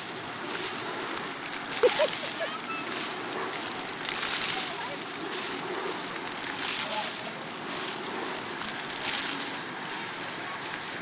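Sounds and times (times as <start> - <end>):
fountain jets spraying water: 0.0 - 11.0.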